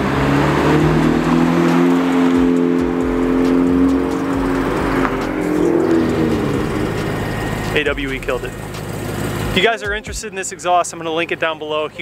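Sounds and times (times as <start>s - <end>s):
car engine accelerating past: 0.0s - 10.1s.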